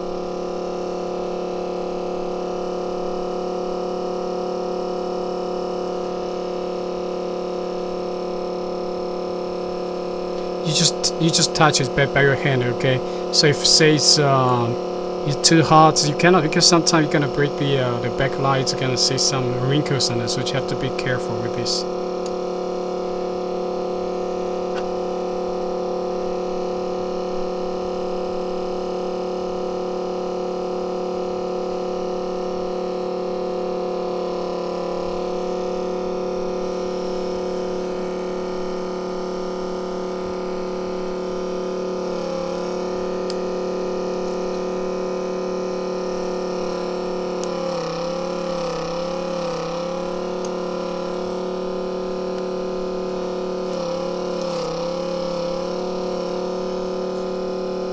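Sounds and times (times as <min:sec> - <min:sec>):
electrical machine hum: 0:00.0 - 0:57.9.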